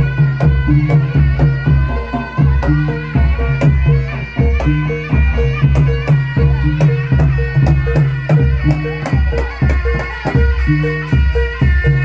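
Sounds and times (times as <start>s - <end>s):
drum strokes: 0.0s - 12.0s
held reedy tones: 0.0s - 12.0s.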